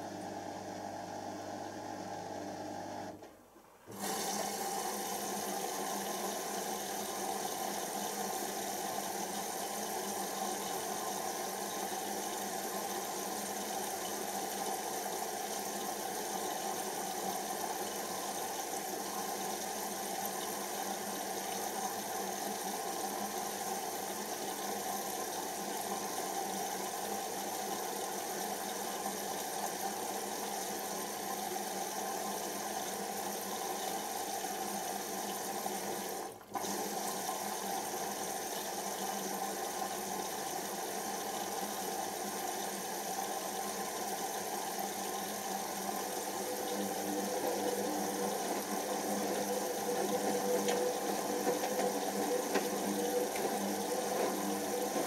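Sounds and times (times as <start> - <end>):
water rushing into washing machine: 3.9 - 55.0.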